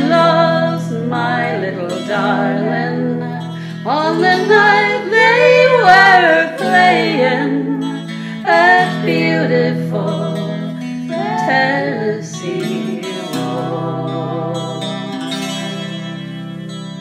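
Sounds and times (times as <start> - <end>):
woman singing in harmony: 0.0 - 15.6
guitar accompaniment: 0.0 - 17.0.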